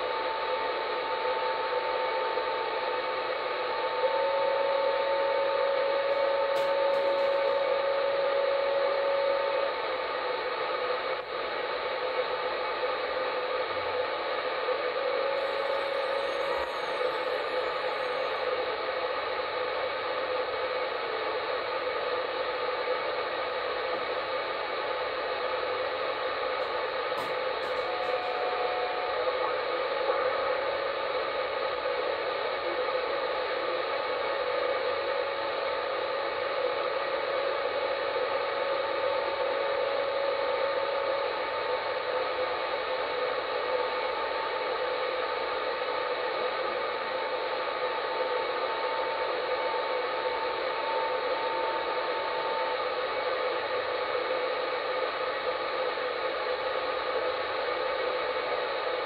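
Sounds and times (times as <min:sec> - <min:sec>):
radio band noise hiss: 0:00.0 - 0:59.0.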